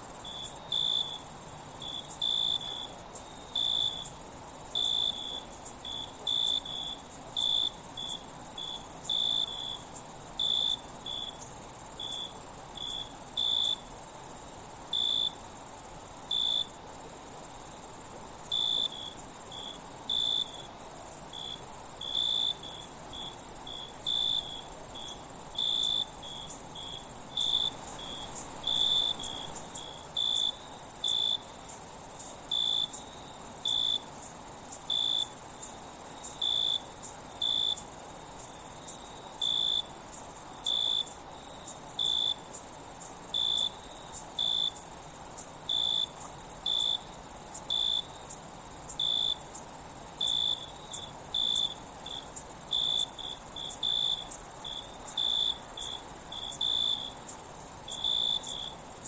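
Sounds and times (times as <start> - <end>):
cricket chirping: 0.0 - 59.0
insects trilling: 0.0 - 59.0.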